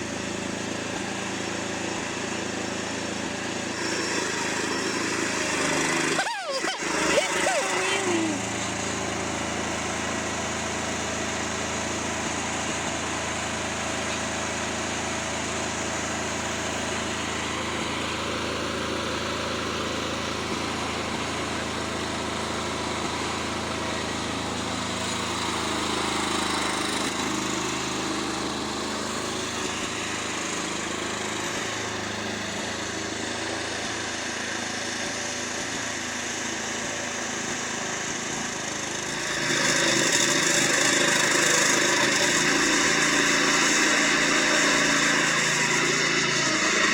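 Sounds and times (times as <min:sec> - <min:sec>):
lawnmower engine running: 0:00.0 - 0:46.9.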